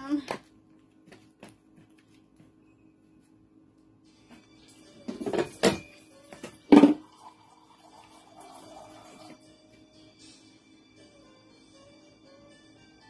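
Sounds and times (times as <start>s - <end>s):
faint music: 0.0s - 13.0s.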